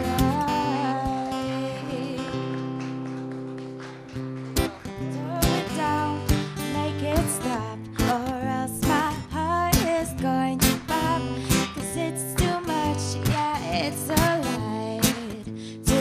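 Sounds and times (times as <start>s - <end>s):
person singing: 0.0s - 2.8s, 5.0s - 16.0s
upbeat guitar theme music: 0.0s - 16.0s.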